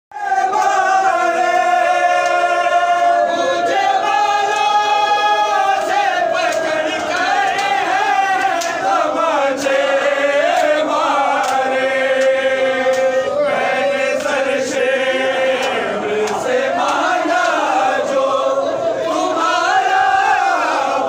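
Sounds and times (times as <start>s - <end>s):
men chanting a lament: 0.1s - 21.0s.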